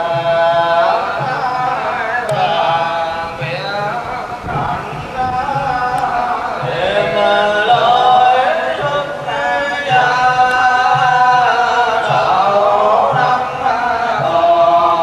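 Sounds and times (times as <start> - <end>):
voices chanting in unison: 0.0 - 15.0.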